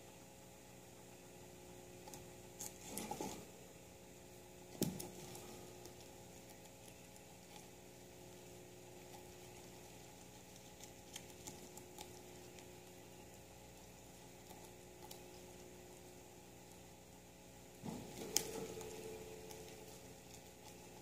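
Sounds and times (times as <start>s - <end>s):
guinea pig chewing leaves: 0.0s - 21.0s
steady low hum: 0.0s - 21.0s.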